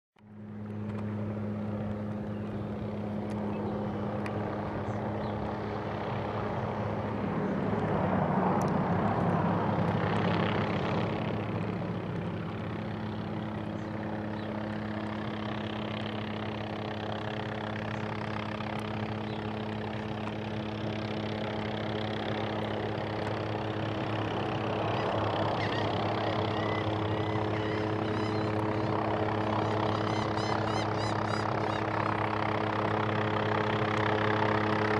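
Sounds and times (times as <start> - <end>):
helicopter rotor drone: 0.2 - 34.9.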